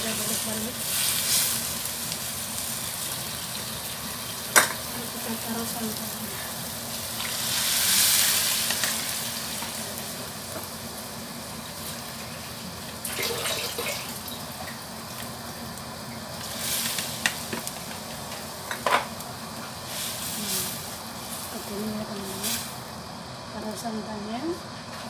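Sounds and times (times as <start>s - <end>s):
curry bubbling and sizzling: 0.0s - 23.3s
liquid hissing in hot wok: 0.0s - 23.6s.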